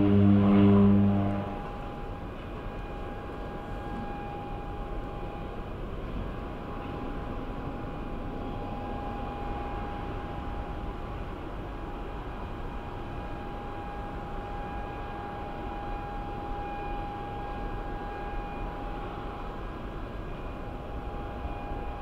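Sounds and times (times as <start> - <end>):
high-pitched engine whine: 0.0 - 22.0.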